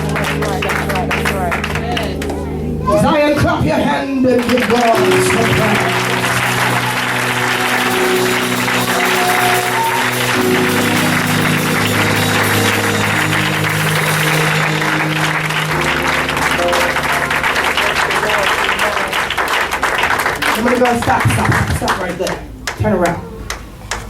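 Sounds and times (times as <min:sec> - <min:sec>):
congregation applauding: 0:00.0 - 0:03.5, 0:04.1 - 0:24.0
music of long held chords: 0:00.0 - 0:20.5.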